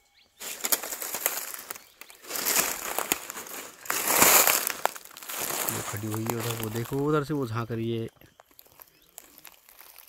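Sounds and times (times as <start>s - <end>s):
dry brush crunching underfoot: 0.4s - 10.0s.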